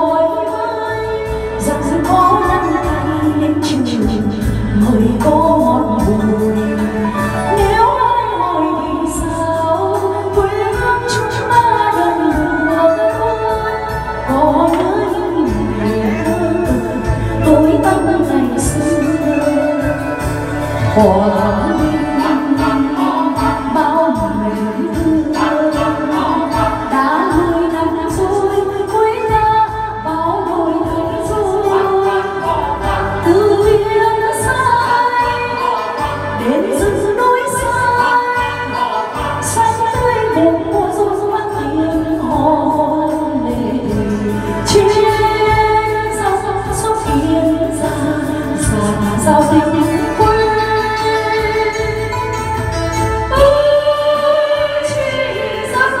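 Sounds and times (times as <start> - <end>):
woman singing into microphone: 0.0 - 56.0.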